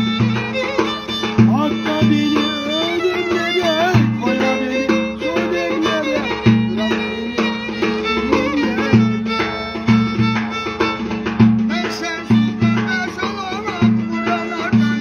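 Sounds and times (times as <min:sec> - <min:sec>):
deep hand drum strokes: 0:00.0 - 0:15.0
fiddle tune: 0:00.0 - 0:15.0
man singing: 0:00.7 - 0:10.0, 0:11.6 - 0:15.0.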